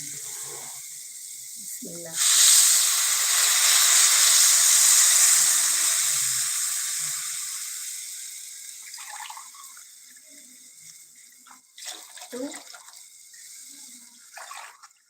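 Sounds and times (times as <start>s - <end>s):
water sizzling in a hot pan: 0.0s - 15.0s.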